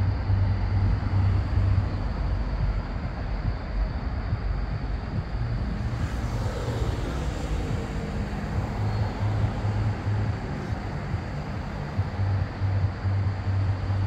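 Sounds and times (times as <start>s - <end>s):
pulsing low hum: 0.0s - 14.0s
road traffic rumble: 0.0s - 14.0s.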